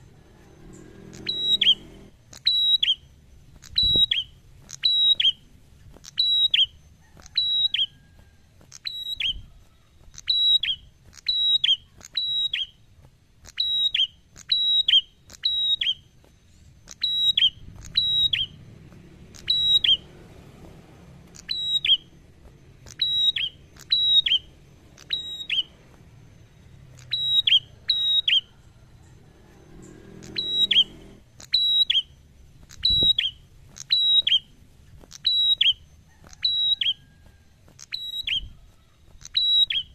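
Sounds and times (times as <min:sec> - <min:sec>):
bird singing sharp high notes: 0:00.1 - 0:07.9, 0:10.1 - 0:12.8, 0:13.4 - 0:20.2, 0:21.1 - 0:37.0.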